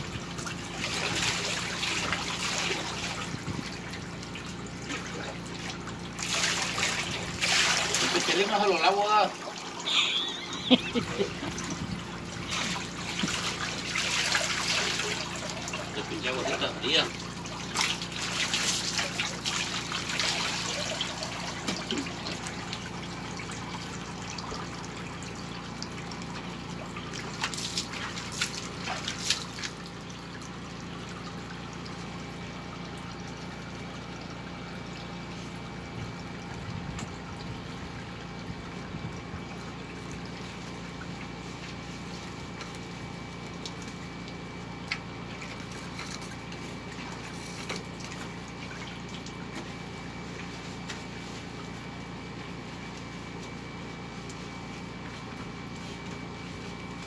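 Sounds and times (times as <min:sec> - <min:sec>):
water splashing into pool: 0:00.0 - 0:57.0.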